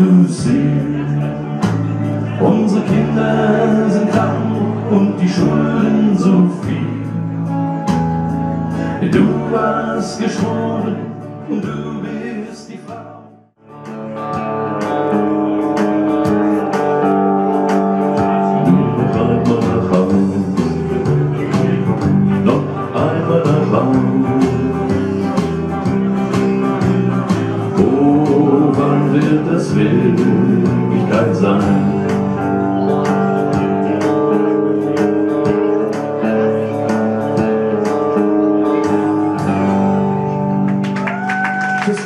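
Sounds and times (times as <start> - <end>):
acoustic guitar strumming: 0.0 - 41.0
electric guitar: 0.0 - 42.0.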